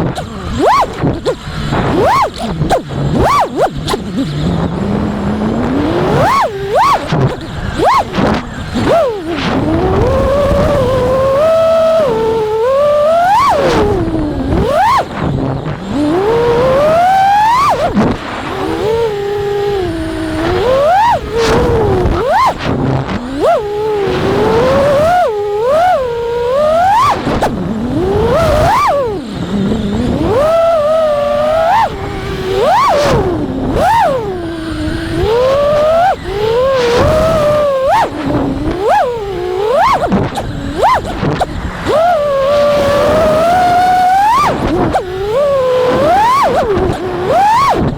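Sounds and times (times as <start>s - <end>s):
quadcopter motor whine: 0.0s - 47.9s
wind buffeting microphone: 0.0s - 47.9s.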